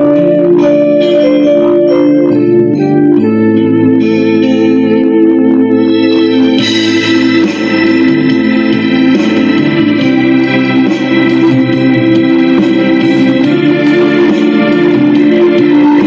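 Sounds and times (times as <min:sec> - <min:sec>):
bright layer with steady beat: 0:00.0 - 0:16.0
electronic organ chords: 0:00.0 - 0:16.0.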